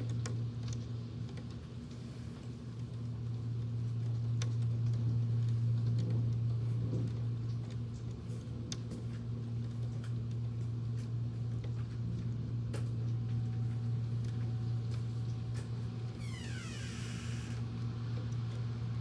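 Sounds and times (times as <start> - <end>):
electric fan hum: 3.2 - 19.0.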